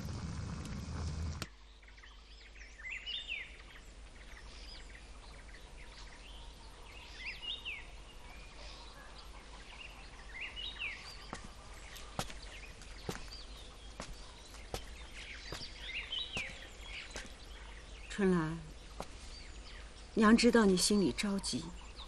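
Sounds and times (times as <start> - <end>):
songbird chirping: 1.2 - 22.0.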